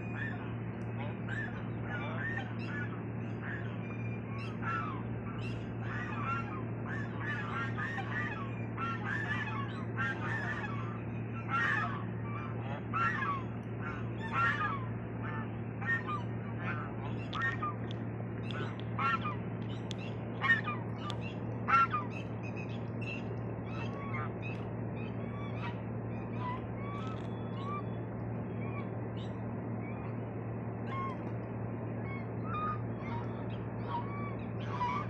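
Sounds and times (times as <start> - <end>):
domestic waterfowl calling: 0.0 - 30.2, 30.8 - 35.0
steady low hum: 0.0 - 35.0.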